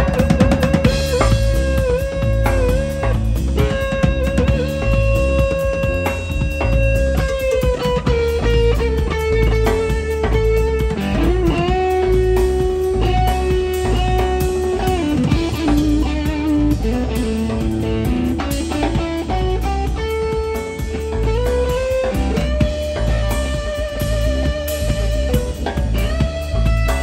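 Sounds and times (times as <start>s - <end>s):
drum kit: 0.0s - 27.0s
electric bass: 0.0s - 27.0s
electric guitar lead with bent notes: 0.0s - 27.0s.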